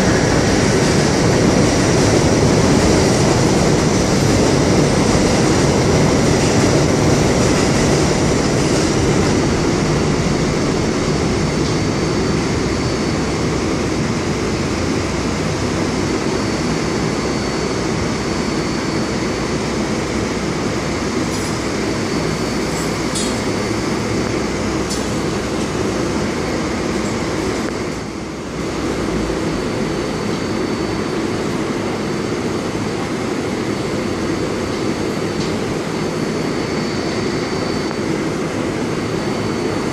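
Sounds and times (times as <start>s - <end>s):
subway train equipment humming: 0.0s - 39.9s.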